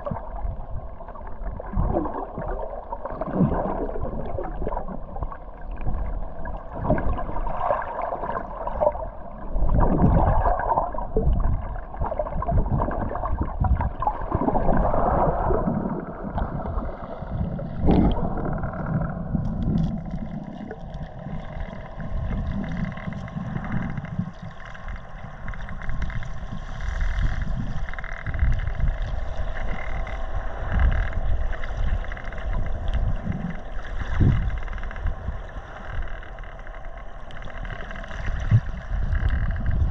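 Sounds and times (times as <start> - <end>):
low rumble: 0.0 - 39.9
muffled water sloshing and gurgling: 0.0 - 39.9.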